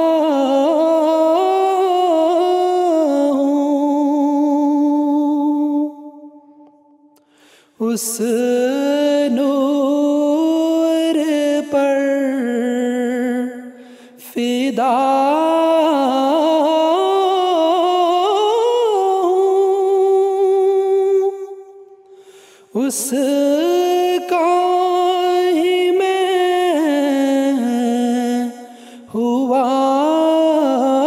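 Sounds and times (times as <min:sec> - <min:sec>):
man singing unaccompanied: 0:00.0 - 0:06.2, 0:07.8 - 0:21.8, 0:22.7 - 0:31.0.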